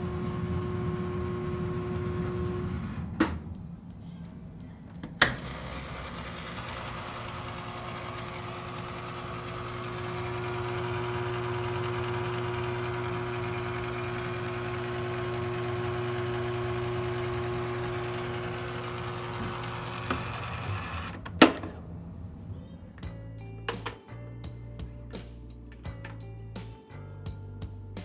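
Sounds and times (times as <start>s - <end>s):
washing machine motor hum: 0.0s - 22.9s.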